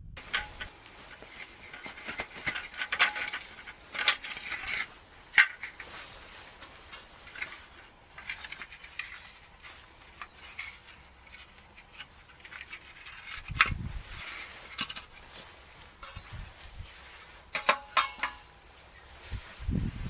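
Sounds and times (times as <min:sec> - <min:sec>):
small hard objects clinking: 0:00.2 - 0:16.4.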